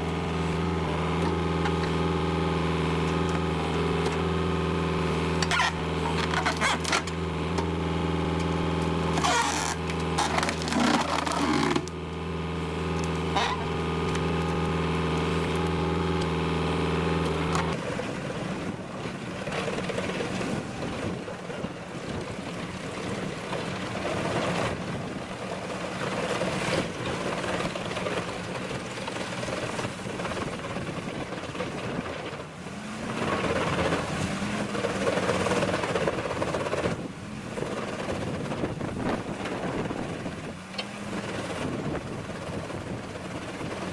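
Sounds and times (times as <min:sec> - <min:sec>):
machine engine humming: 0:00.0 - 0:43.9
rough noisy machine: 0:00.0 - 0:43.9.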